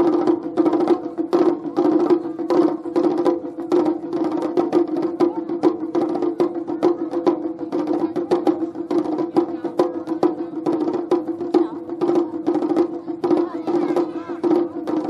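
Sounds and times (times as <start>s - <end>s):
large drums: 0.0s - 15.0s.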